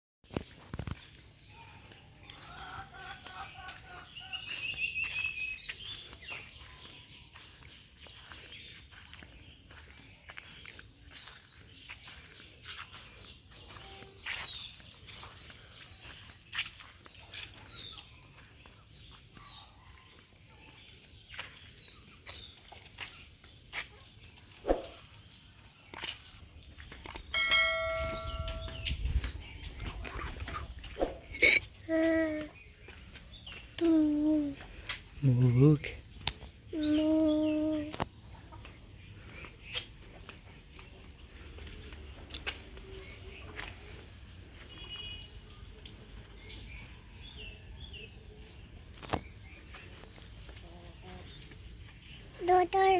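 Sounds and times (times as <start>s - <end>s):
birds chirping: 0.3s - 52.9s.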